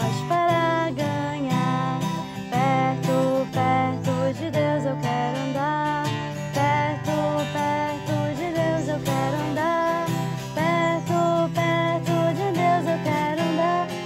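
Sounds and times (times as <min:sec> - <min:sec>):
acoustic guitar strumming: 0:00.0 - 0:14.0
young woman singing: 0:00.0 - 0:14.0.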